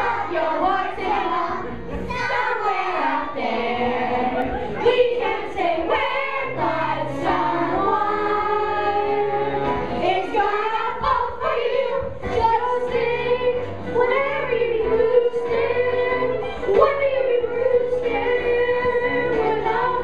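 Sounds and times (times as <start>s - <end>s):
children's chorus singing: 0.0s - 20.0s.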